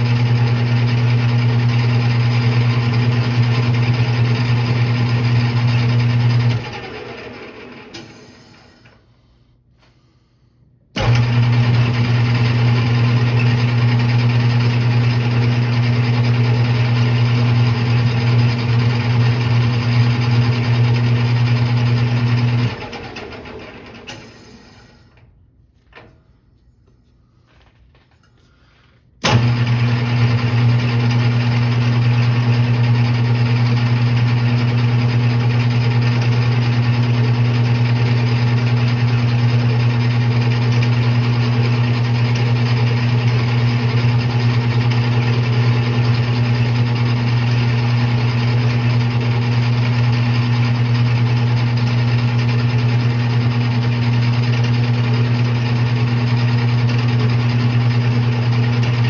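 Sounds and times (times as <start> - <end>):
metal lathe motor hum: 0.0 - 8.6, 11.0 - 24.8, 29.3 - 59.0.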